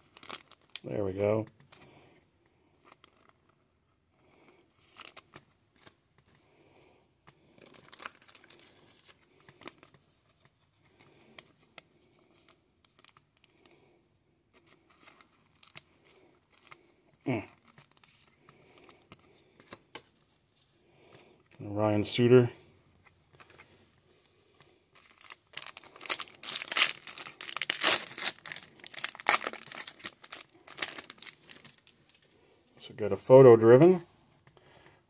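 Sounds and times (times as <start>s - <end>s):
plastic card sleeve crinkling: 0.0s - 1.9s, 2.7s - 6.4s, 7.2s - 13.7s, 14.5s - 21.6s, 22.9s - 32.4s.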